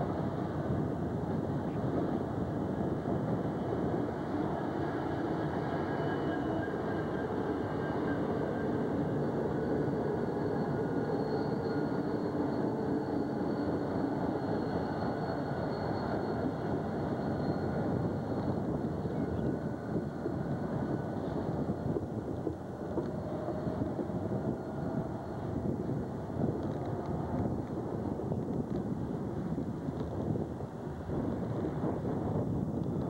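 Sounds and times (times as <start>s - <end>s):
diesel locomotives working: 0.0s - 33.0s
train wheels running on rails: 0.0s - 33.0s.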